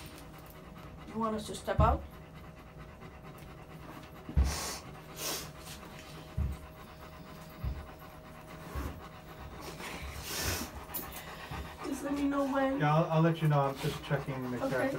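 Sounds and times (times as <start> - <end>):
dog panting: 0.0 - 14.9.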